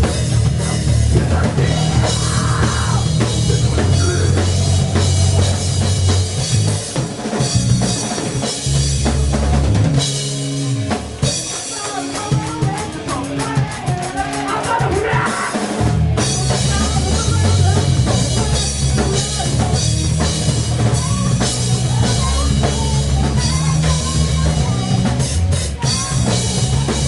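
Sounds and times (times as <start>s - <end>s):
drum kit hits: 0.0s - 26.8s
heavy rock band: 0.0s - 27.0s.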